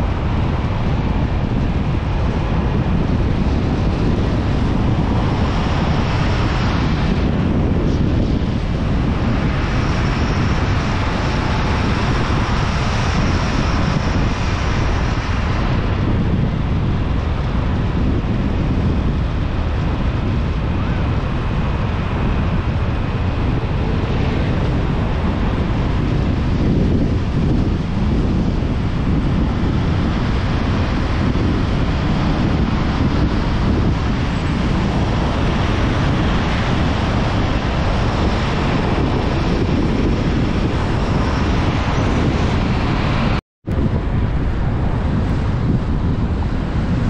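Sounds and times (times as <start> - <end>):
car tyre and road noise: 0.0 - 47.0
wind on microphone: 0.0 - 47.0.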